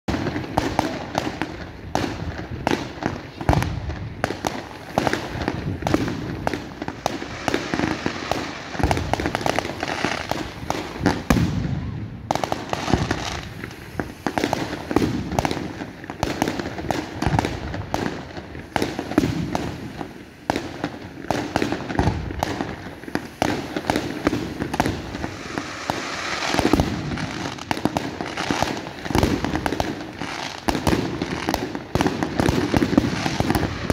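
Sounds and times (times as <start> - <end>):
fireworks bursting with sharp bangs: 0.1 - 33.9.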